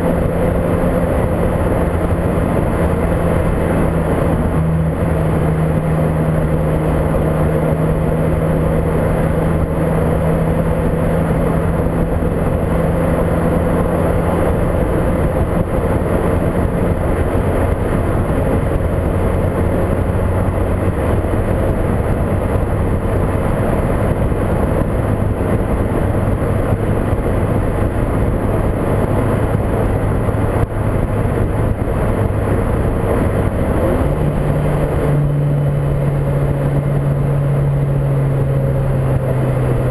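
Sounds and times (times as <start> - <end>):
car engine hum: 0.0 - 39.9
road noise: 0.0 - 39.9
wind noise on microphone: 0.0 - 39.9.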